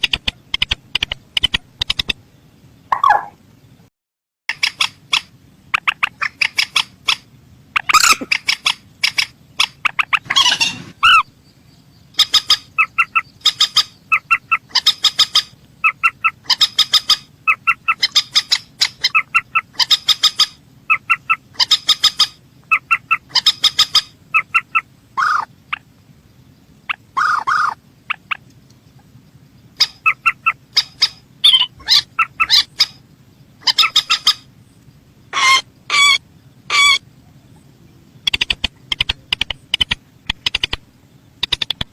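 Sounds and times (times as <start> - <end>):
rail bird calling: 2.9 - 3.4, 4.5 - 41.9.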